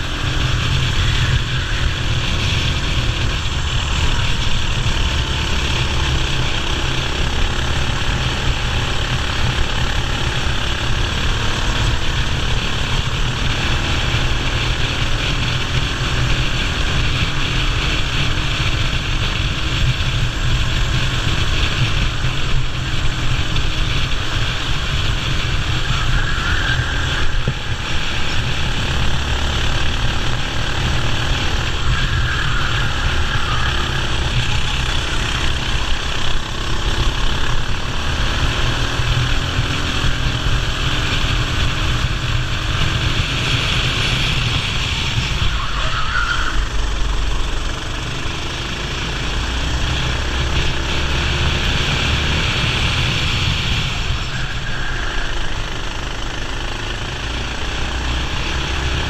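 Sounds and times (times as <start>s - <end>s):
racing kart engine: 0.0s - 59.0s.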